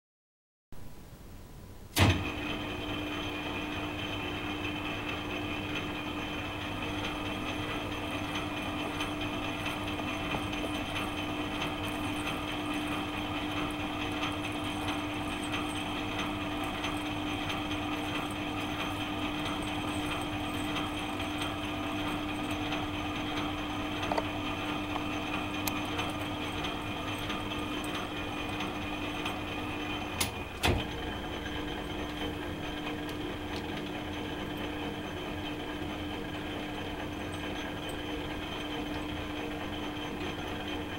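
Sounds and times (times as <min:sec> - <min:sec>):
metal lathe humming: 0:02.3 - 0:40.9.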